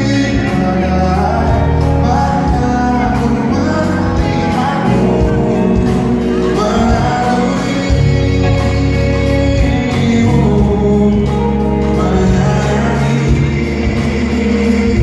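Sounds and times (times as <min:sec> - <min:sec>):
live pop band playing: 0:00.0 - 0:15.0
man singing: 0:00.0 - 0:15.0.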